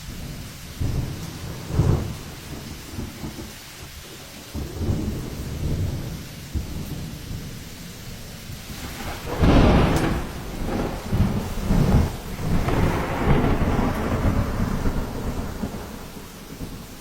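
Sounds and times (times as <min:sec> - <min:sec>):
rain falling: 0:00.0 - 0:17.0
rumbling wind gusts: 0:00.0 - 0:17.0.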